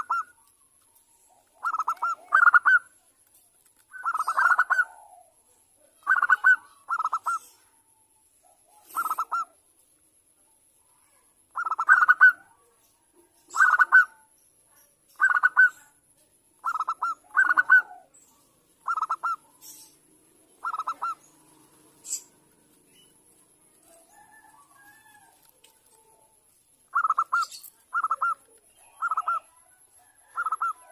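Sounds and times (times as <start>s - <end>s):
dove cooing: 0.0s - 3.0s, 3.9s - 7.8s, 8.6s - 9.6s, 11.5s - 12.7s, 13.5s - 14.3s, 15.2s - 15.9s, 16.6s - 30.9s.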